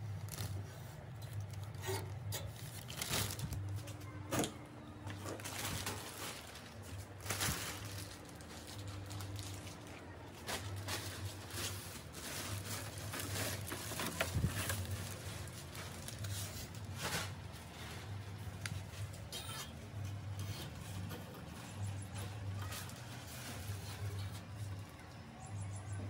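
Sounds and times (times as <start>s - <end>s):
plastic wrapping crinkling: 0.0s - 25.1s.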